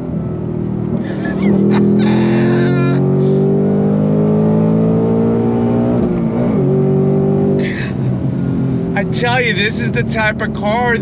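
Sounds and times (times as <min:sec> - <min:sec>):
car engine under throttle: 0:00.0 - 0:11.0.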